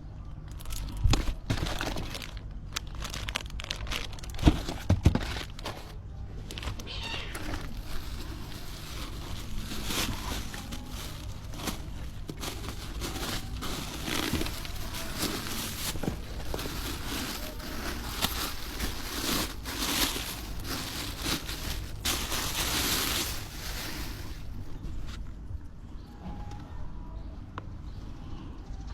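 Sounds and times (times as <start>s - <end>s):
wrapping rustling and crinkling: 0.5s - 25.4s.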